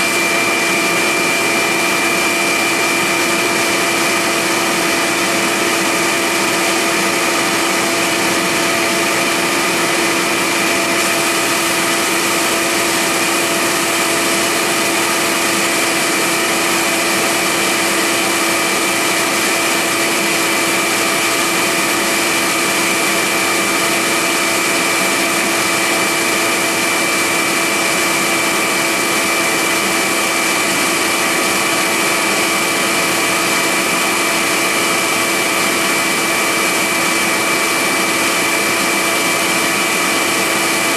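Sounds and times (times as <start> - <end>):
milling machine cutting: 0.0 - 40.9
vacuum nozzle: 0.0 - 40.9.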